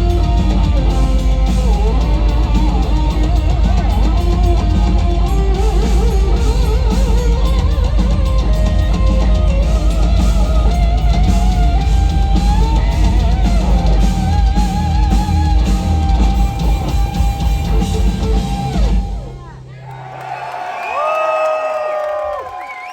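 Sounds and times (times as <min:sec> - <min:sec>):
lead electric guitar melody: 0:00.0 - 0:19.7
bass guitar: 0:00.0 - 0:19.8
pounding drums: 0:00.0 - 0:19.8.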